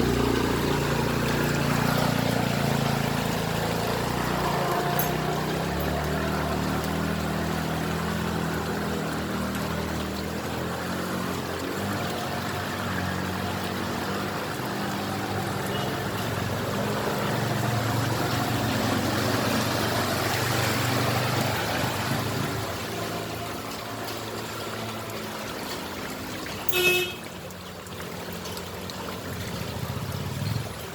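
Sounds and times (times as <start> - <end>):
engine running: 0.0 - 30.9
rushing splashing floodwater: 0.0 - 30.9.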